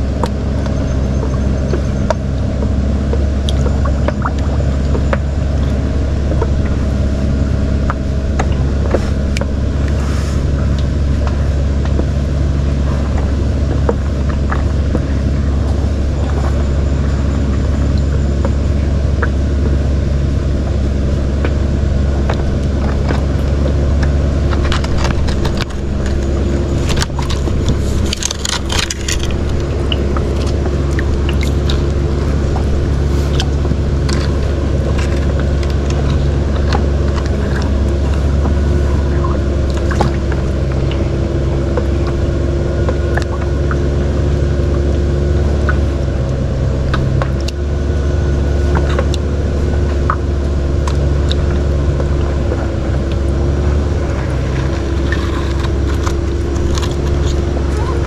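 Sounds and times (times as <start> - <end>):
boat engine idling: 0.0 - 58.0
knocks and scrapes on hull: 0.0 - 58.0.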